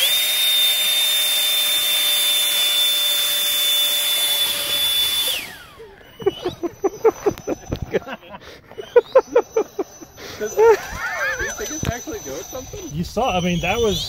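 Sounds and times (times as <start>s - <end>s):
electric fan high whine: 0.0s - 14.0s.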